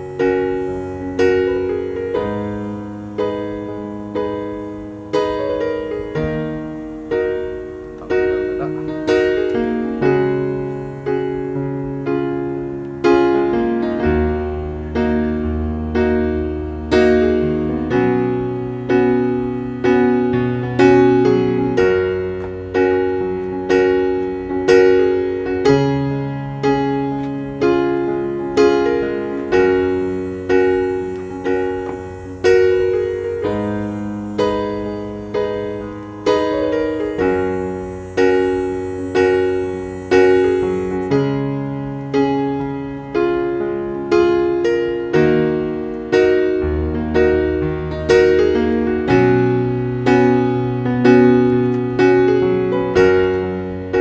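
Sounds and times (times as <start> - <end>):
slow solo piano melody: 0.0 - 54.0.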